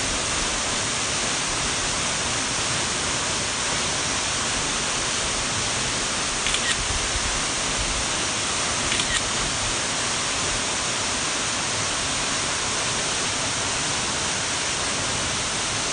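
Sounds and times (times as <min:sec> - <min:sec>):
waterfall rushing into pool: 0:00.0 - 0:15.9.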